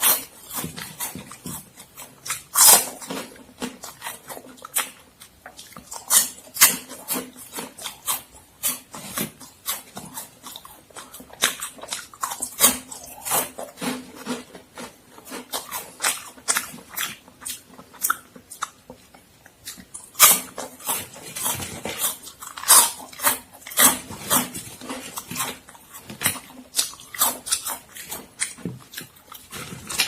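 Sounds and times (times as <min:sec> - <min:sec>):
crunchy snack chewing: 0:00.0 - 0:30.0.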